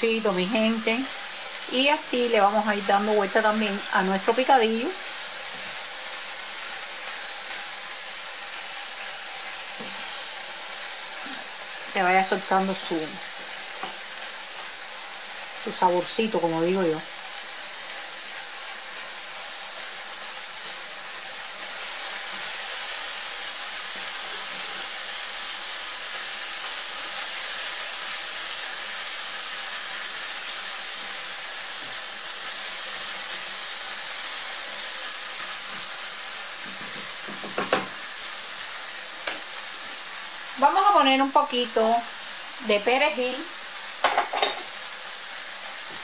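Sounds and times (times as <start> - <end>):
meat sizzling in a frying pan: 0.0 - 46.0.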